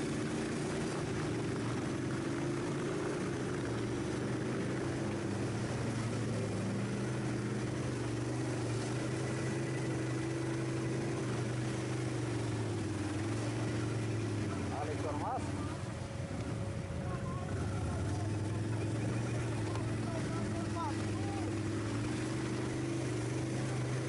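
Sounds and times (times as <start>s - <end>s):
quad bike engine running: 0.0s - 24.0s.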